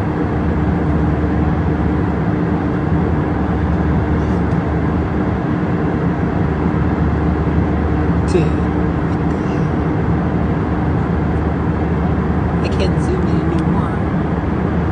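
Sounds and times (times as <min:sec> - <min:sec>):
vehicle cabin drone: 0:00.0 - 0:14.9.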